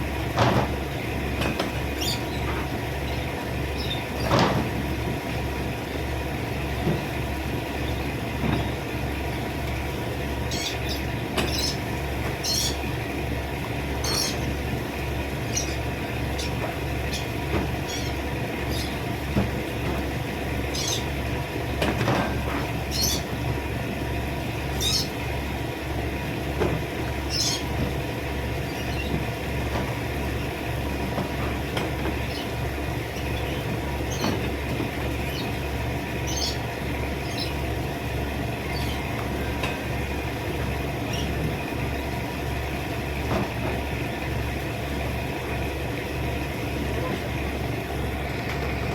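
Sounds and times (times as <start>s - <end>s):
pulsing low mechanical drone: 0.0s - 48.9s.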